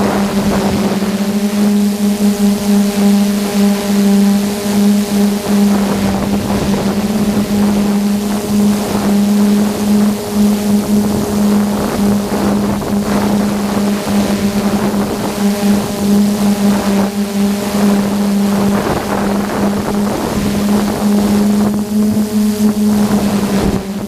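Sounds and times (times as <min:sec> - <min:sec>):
drone motors and propellers: 0:00.0 - 0:24.0
wind buffeting microphone: 0:00.0 - 0:24.0.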